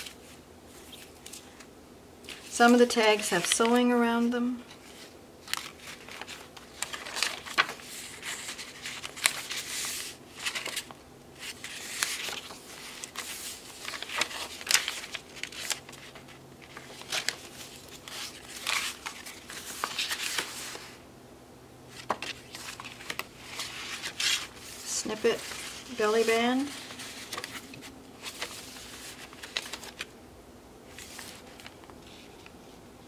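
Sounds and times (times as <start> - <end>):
paper pages rustling and flapping: 0.0 - 3.9, 4.6 - 21.0, 21.9 - 30.2, 30.9 - 32.6.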